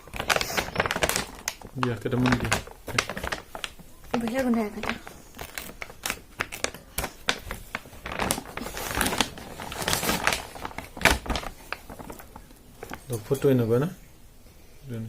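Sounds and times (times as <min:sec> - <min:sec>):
plastic wrapping crinkling: 0:00.0 - 0:13.8.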